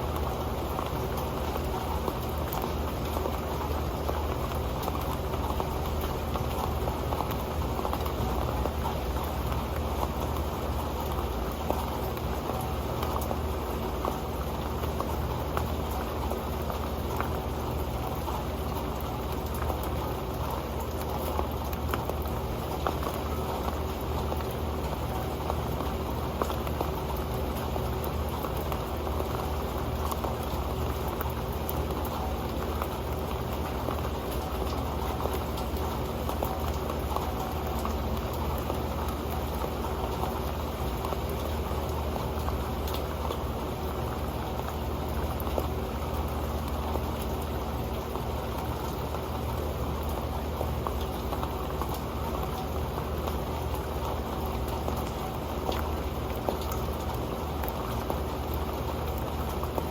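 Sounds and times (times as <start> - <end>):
rain on a metal pan: 0.0 - 59.9.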